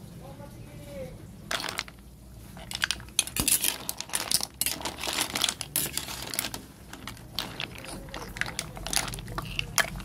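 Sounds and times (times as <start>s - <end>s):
clam shells clattering in water: 1.5s - 10.0s.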